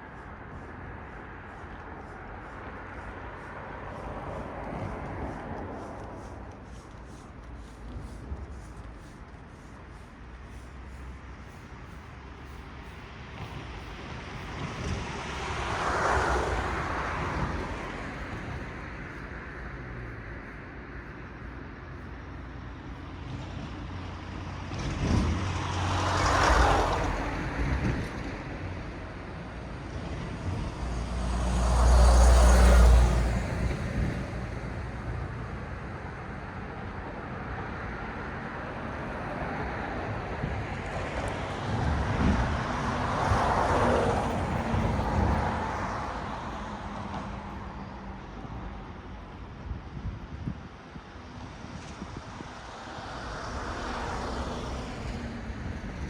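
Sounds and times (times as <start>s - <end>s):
cars passing by: 0.0s - 56.0s.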